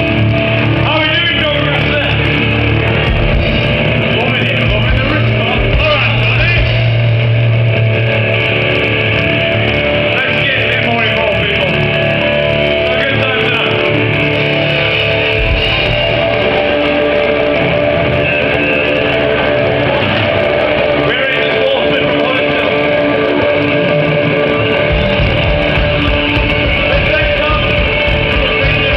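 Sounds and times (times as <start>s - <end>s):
bass guitar: 0.0s - 28.9s
electric guitar: 0.0s - 28.9s
live rock band: 0.0s - 28.9s.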